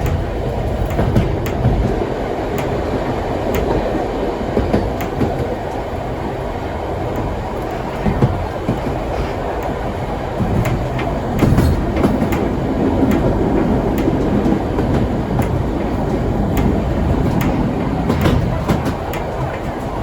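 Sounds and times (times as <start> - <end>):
steam train rumbling on track: 0.0 - 20.0
wheels clicking and knocking: 0.0 - 20.0.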